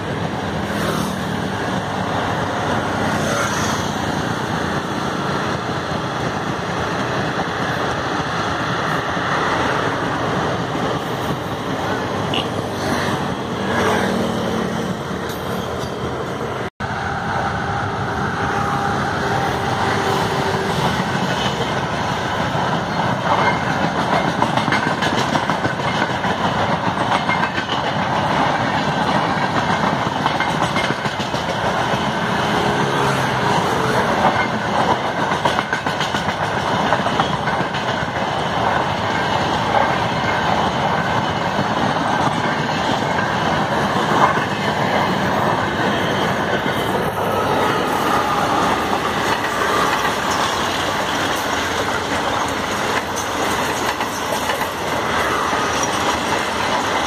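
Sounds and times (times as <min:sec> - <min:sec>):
electric locomotive passing: 0:00.0 - 0:57.0
train coaches rolling past: 0:00.0 - 0:57.0.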